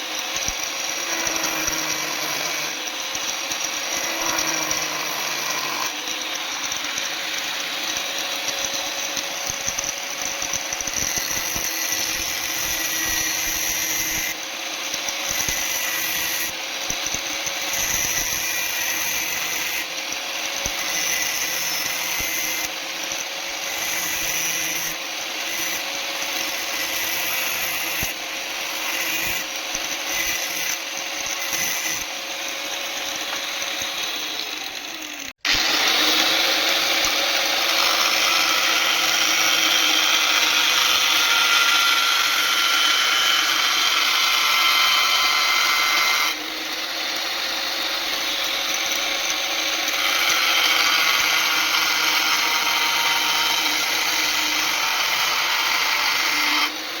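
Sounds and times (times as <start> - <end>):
electric power tool running: 0.0 - 57.0.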